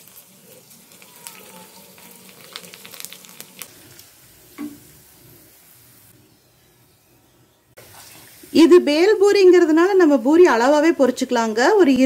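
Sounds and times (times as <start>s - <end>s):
food deep-frying in hot oil: 0.0s - 6.4s, 7.7s - 12.0s.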